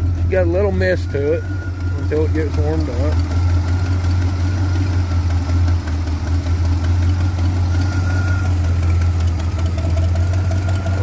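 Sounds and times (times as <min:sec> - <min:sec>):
engine idling with slight miss: 0:00.0 - 0:11.0
exhaust leak popping: 0:00.0 - 0:11.0.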